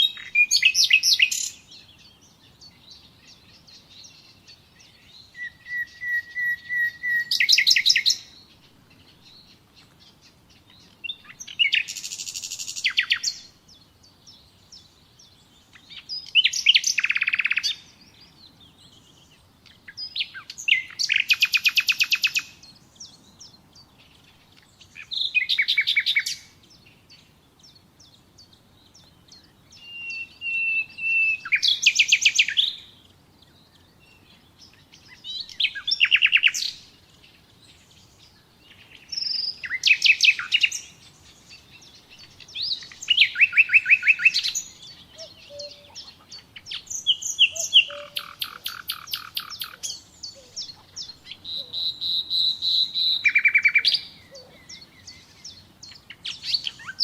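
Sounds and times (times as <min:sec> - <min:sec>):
nightingale singing trills: 0:00.0 - 0:57.0.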